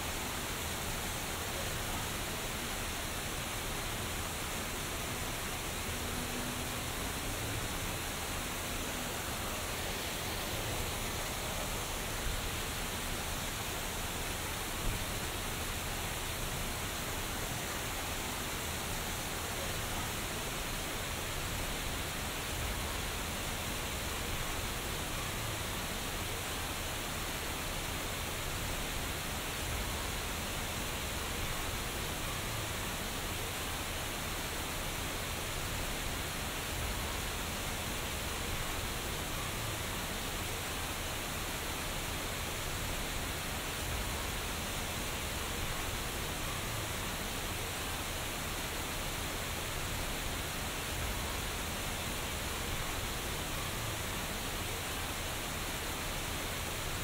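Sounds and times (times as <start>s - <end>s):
rain falling on a pool: 0.0s - 57.0s.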